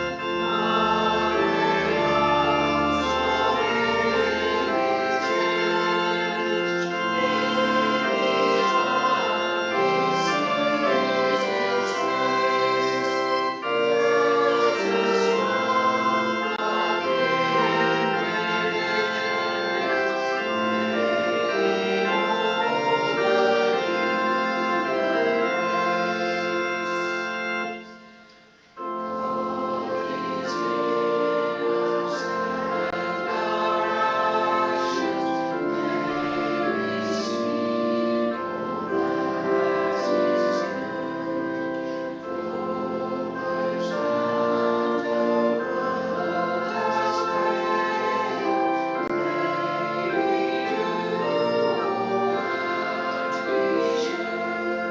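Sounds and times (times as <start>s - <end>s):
church organ chords: 0.0s - 54.9s.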